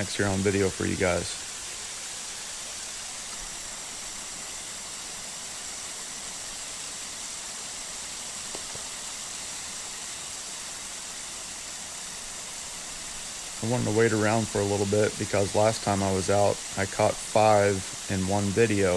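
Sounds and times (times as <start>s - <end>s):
steady hiss: 0.0s - 18.9s.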